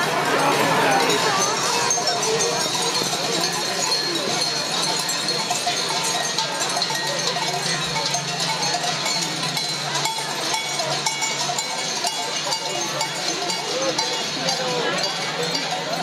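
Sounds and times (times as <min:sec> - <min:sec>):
large bells clanging: 0:00.0 - 0:16.0.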